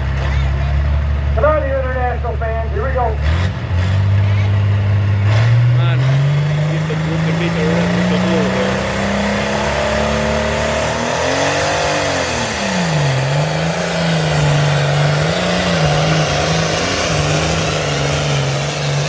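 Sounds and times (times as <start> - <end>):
tractor diesel engine at full throttle: 0.0 - 19.0.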